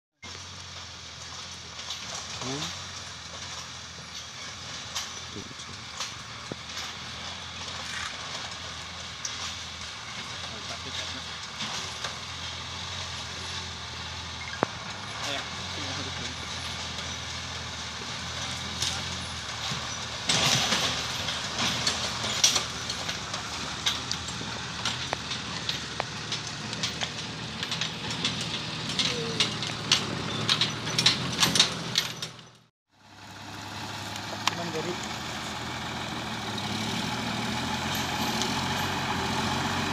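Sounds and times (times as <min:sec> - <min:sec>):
road noise: 0:00.2 - 0:39.9
truck engine running: 0:00.2 - 0:39.9
sharp knocks and rattles: 0:00.3 - 0:32.7.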